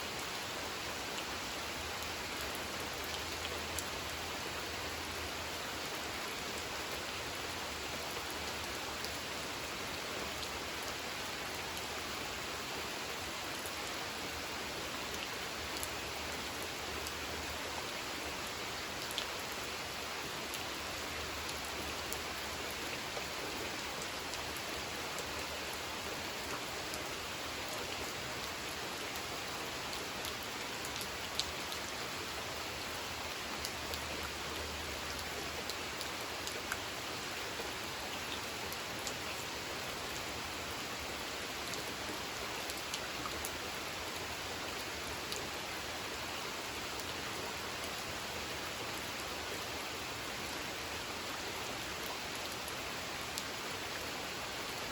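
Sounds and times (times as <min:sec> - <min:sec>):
rain falling on a pond: 0:00.0 - 0:54.9.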